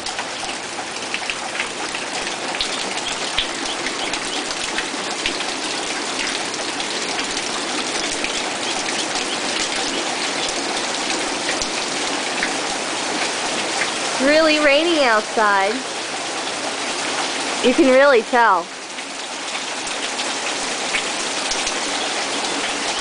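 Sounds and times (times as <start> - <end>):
heavy rain hissing: 0.0 - 23.0
raindrops ticking on a surface: 0.0 - 23.0.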